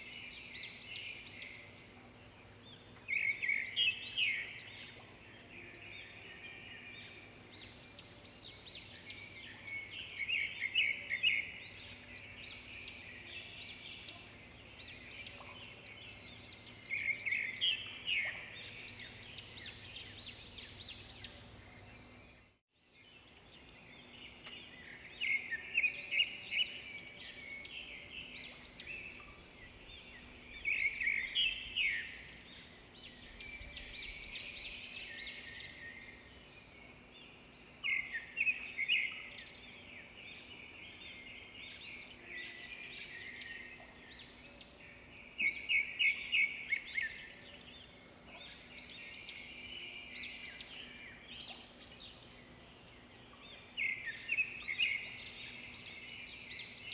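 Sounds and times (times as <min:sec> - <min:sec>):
songbirds chirping and singing: 0:00.0 - 0:56.9.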